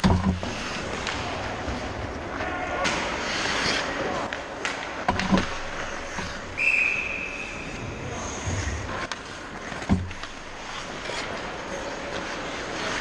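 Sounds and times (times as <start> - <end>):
hockey sticks and puck clacking: 0.0 - 7.9, 8.6 - 13.0
skate blades scraping ice: 0.4 - 13.0.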